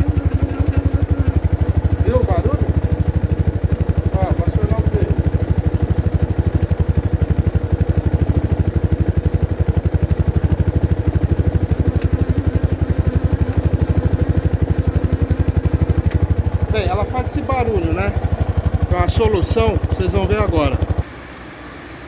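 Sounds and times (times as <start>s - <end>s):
brake pad noise: 0.0s - 21.1s
motorcycle engine running: 0.0s - 21.1s.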